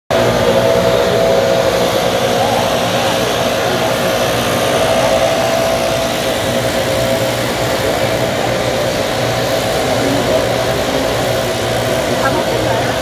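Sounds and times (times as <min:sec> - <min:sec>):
engine drone with whine: 0:00.1 - 0:13.0.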